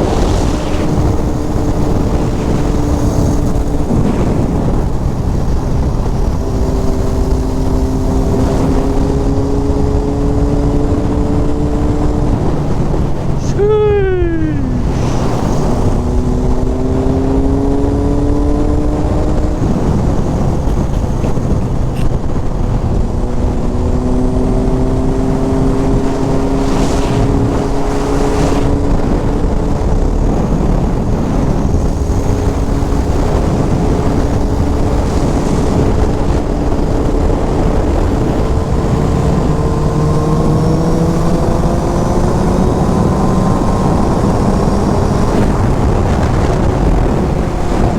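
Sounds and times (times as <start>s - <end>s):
motorcycle engine accelerating hard: 0.0s - 13.5s, 14.4s - 47.9s
wind rush on microphone: 0.0s - 47.9s.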